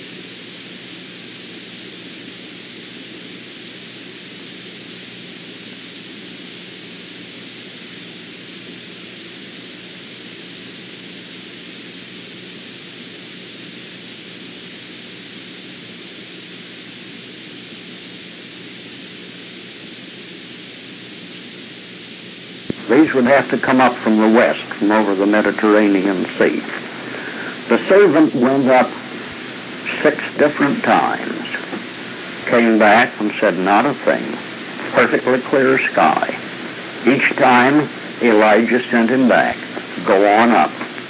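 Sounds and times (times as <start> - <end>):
faint crackle: 0.0 - 28.0, 28.8 - 41.0
low steady hum: 0.0 - 41.0
tape hiss: 0.0 - 41.0.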